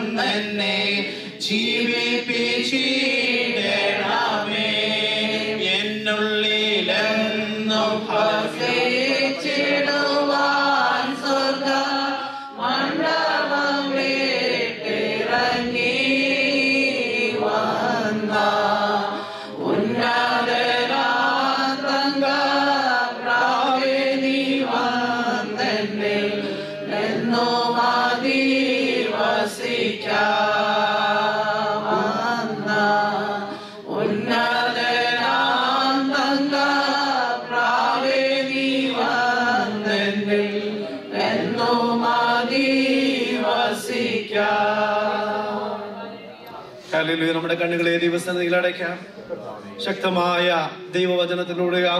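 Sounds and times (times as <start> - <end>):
congregation singing worship song: 0.0 - 51.2.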